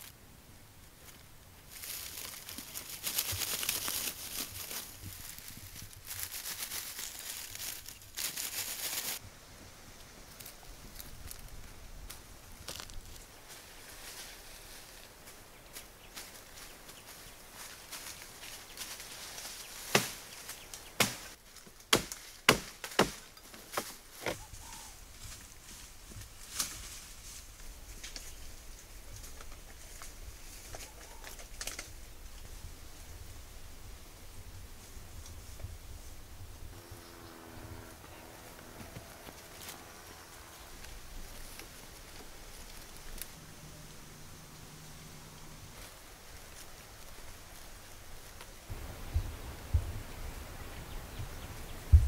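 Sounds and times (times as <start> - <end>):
dry grass rustling by hand: 0.0 - 52.0
faint outdoor background: 0.0 - 52.0.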